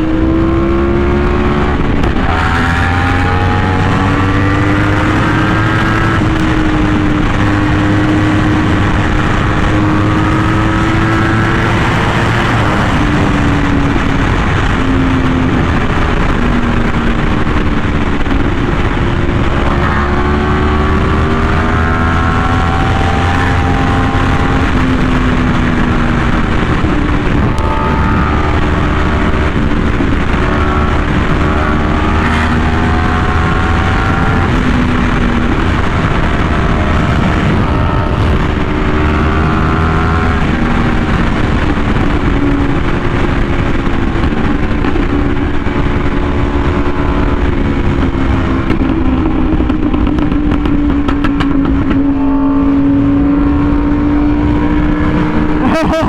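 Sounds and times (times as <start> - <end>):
motorcycle engine at high revs: 0.0 - 56.0
wind rush on microphone: 0.0 - 56.0.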